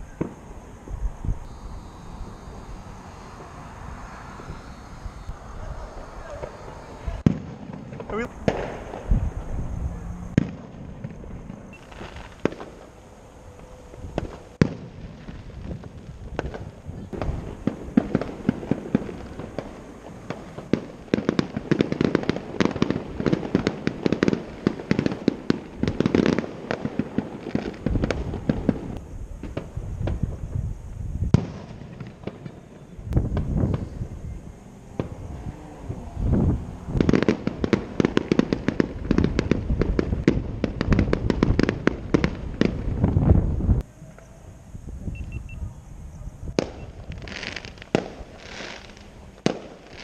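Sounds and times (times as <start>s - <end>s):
fireworks bangs and crackles: 0.0s - 44.3s, 46.3s - 50.0s.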